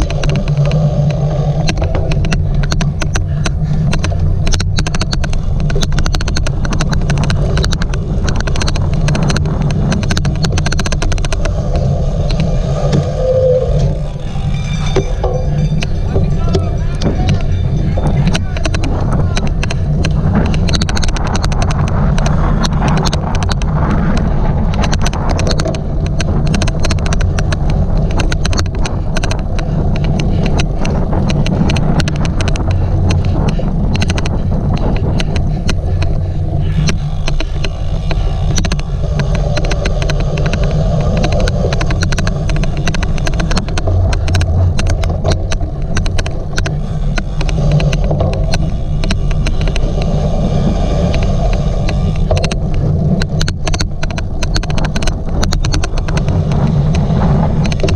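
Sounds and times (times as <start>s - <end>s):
bike riding rumble: 0.0s - 57.9s
rapid irregular clicking: 0.0s - 57.9s.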